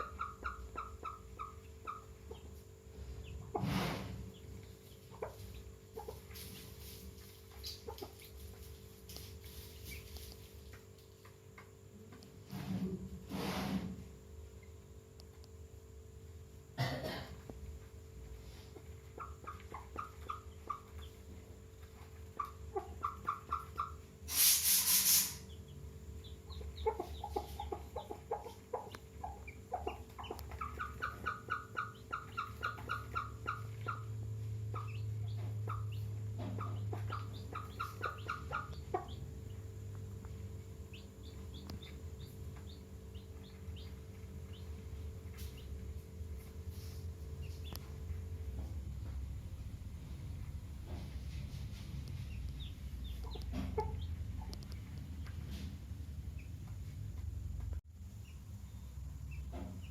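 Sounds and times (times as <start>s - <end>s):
chickens clucking: 0.0s - 13.3s, 17.3s - 24.3s, 25.4s - 49.4s, 50.0s - 57.7s.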